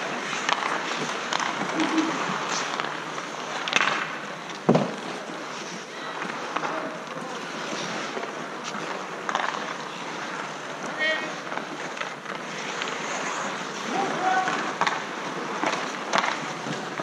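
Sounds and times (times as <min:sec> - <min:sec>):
hockey sticks and puck clacking: 0:00.0 - 0:17.0
skates and wind rushing: 0:00.0 - 0:17.0.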